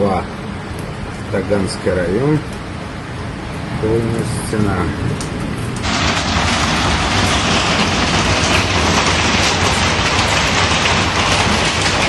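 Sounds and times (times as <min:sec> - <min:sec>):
hail and heavy rain on paving: 0:00.0 - 0:12.0.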